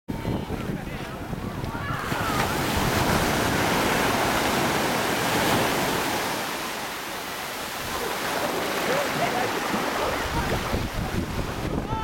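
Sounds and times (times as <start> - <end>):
ocean surf washing ashore: 0.1 - 12.0.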